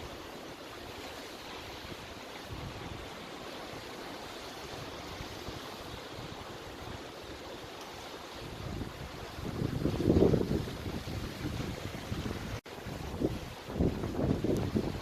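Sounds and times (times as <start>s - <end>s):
running water: 0.0s - 15.0s
wind buffeting microphone: 0.0s - 15.0s.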